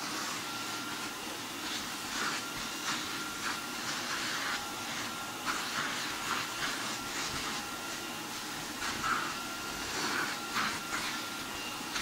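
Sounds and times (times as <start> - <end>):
vacuum cleaner whine: 0.0 - 12.0
vacuum suction hiss on fabric: 0.0 - 12.0.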